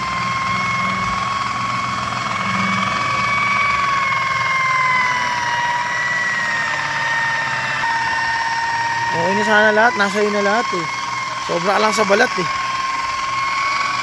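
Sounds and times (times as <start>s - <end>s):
electric polisher motor whine: 0.0s - 14.0s.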